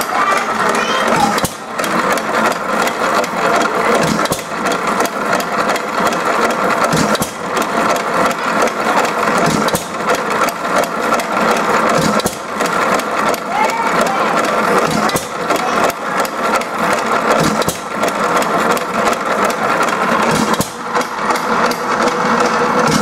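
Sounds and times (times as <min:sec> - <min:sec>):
old engine clattering: 0:00.0 - 0:23.0.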